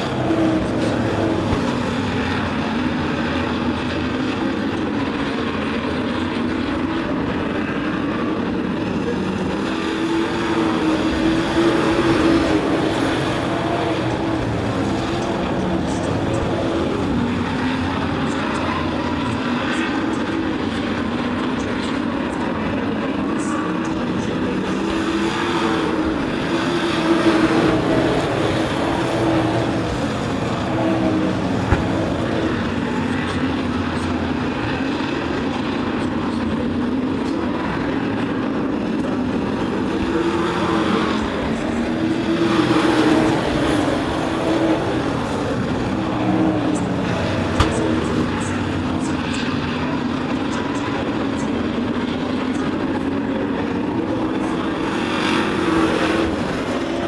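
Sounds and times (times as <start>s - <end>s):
racing truck engines: 0.0s - 57.0s.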